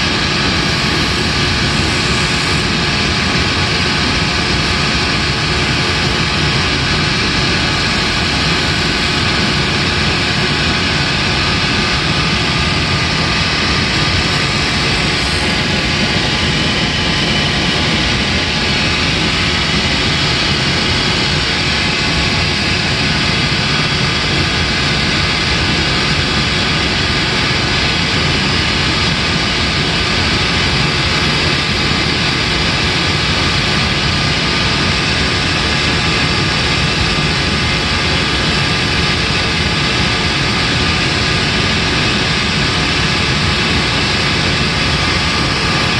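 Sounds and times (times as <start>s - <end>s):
machine whirring: 0.0s - 45.9s.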